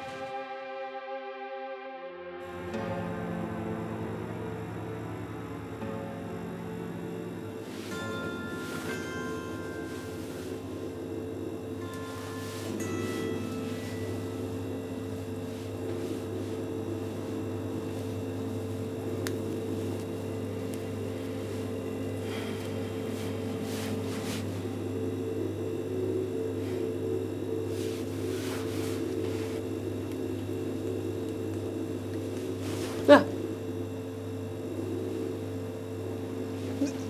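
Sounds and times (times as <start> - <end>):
low layered hum: 0.0 - 37.0.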